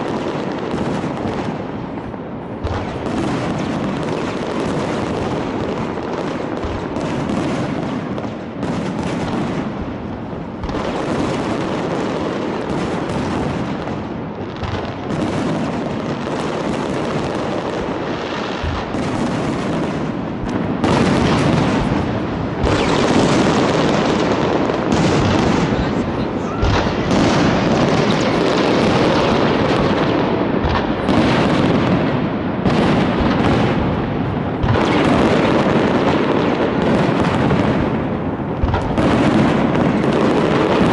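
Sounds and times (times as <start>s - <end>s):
fireworks booms and crackling: 0.0s - 40.9s.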